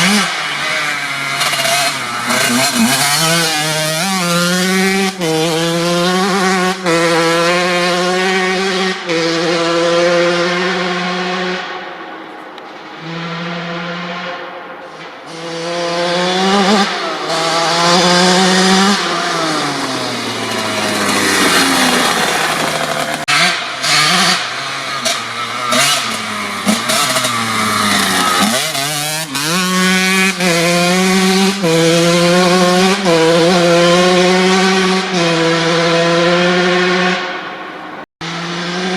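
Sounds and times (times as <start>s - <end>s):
two-stroke engine revving: 0.0s - 11.6s, 15.3s - 37.3s, 38.2s - 38.9s.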